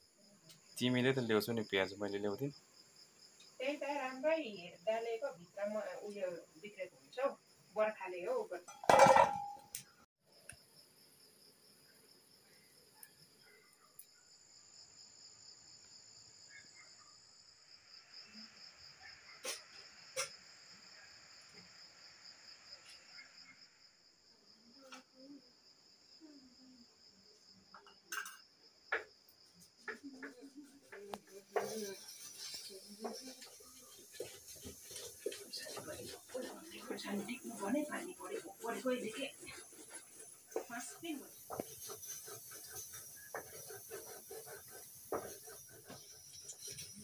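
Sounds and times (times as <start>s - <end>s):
insects trilling: 0.0s - 8.8s, 10.2s - 47.0s.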